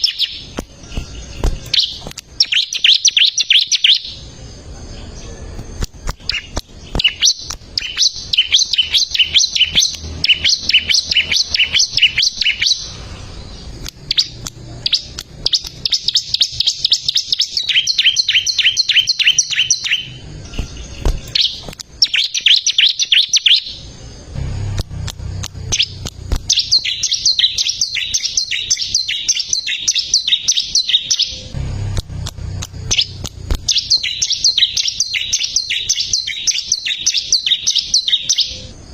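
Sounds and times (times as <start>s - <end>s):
bird singing fast high chirps: 0.0s - 4.4s, 6.0s - 24.3s, 25.2s - 31.6s, 32.6s - 38.8s.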